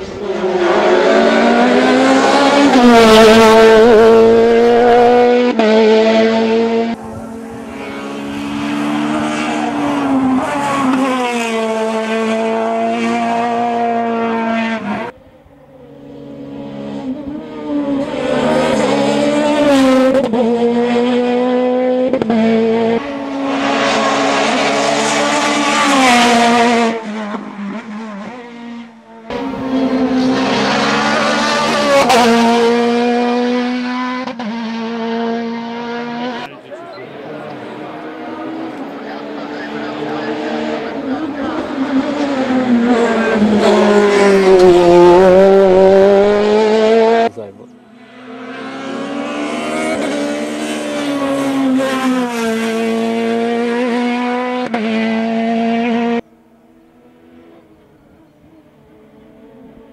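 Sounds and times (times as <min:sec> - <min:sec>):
race car engine revving: 0:00.0 - 0:15.2, 0:15.8 - 0:59.9.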